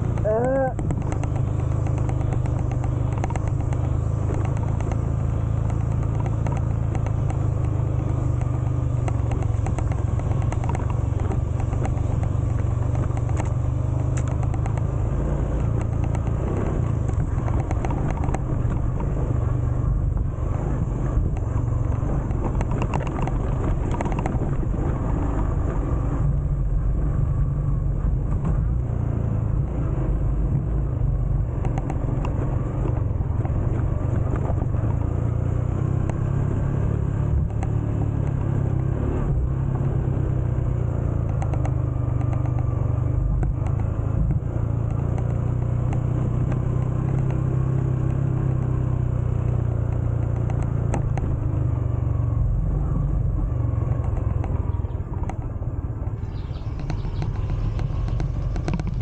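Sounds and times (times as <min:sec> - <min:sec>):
road and wind noise: 0:00.0 - 0:59.0
vehicle engine drone: 0:00.0 - 0:59.0.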